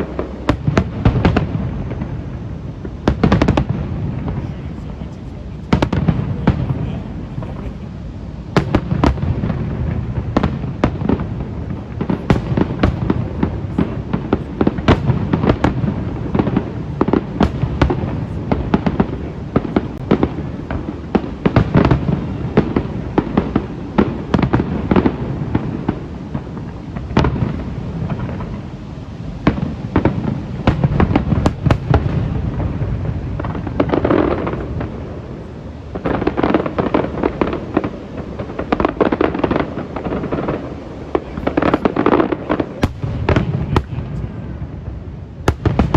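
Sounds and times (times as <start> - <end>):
low rumble of booms: 0.0 - 45.9.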